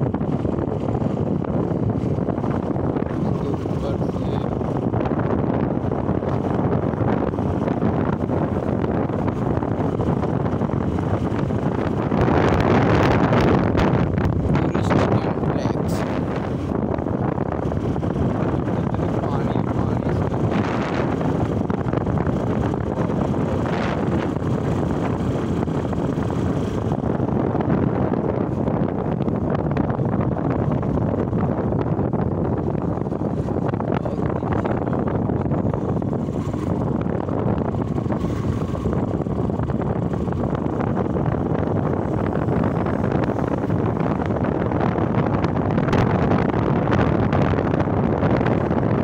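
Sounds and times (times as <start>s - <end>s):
motorcycle engine: 0.0s - 49.0s
road noise: 0.0s - 49.0s
wind buffeting microphone: 0.0s - 49.0s.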